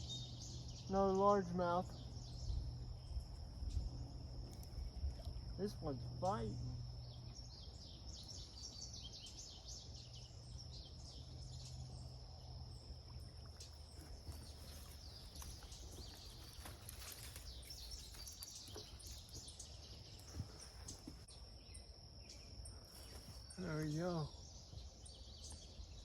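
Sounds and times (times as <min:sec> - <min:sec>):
birds chirping: 0:00.0 - 0:26.0
insect drone: 0:00.0 - 0:26.0.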